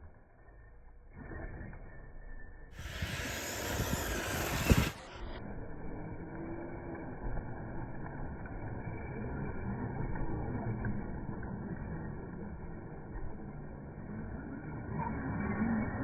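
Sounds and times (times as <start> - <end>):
radio-controlled cars running: 0.0 - 16.0.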